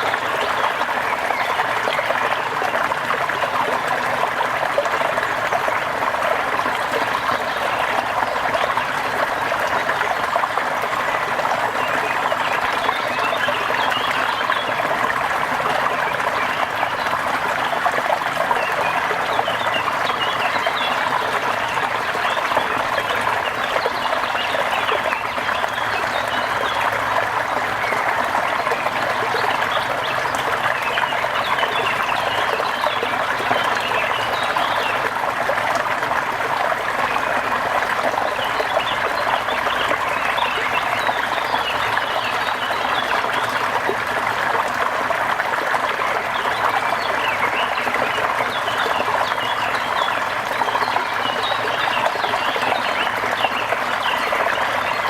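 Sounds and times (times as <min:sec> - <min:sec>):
water noise: 0:00.0 - 0:55.0.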